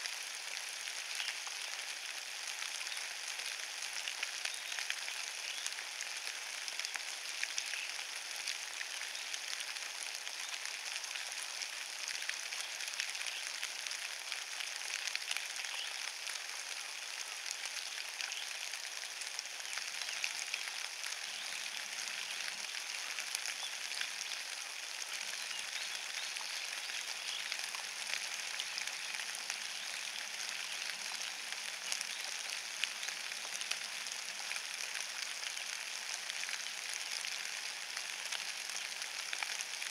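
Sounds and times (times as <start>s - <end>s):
rain falling on wet leaves: 0.0s - 39.9s.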